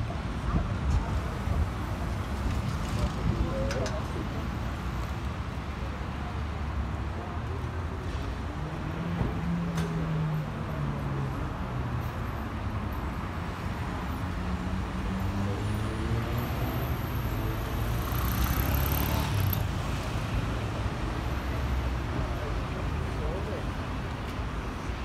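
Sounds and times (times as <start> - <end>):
low traffic rumble: 0.0 - 25.0
vehicles passing: 0.0 - 25.0.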